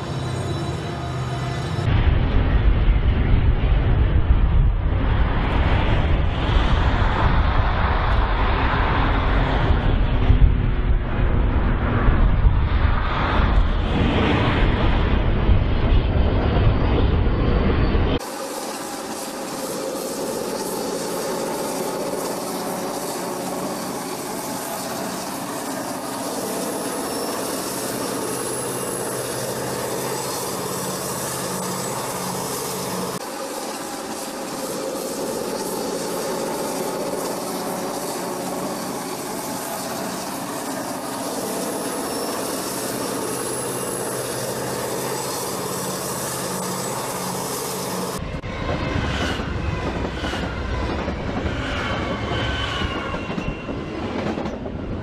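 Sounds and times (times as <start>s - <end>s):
freight train rolling on rails: 0.0s - 55.0s.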